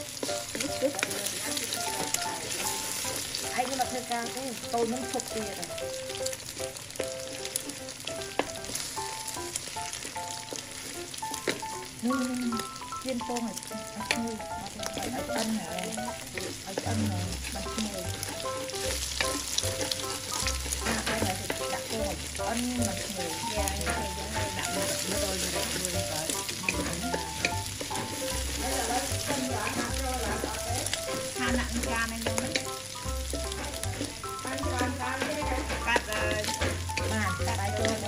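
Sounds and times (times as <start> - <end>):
wooden spatula scraping a pan: 0.0 - 12.4, 14.0 - 38.0
food sizzling in a wok: 0.0 - 38.0.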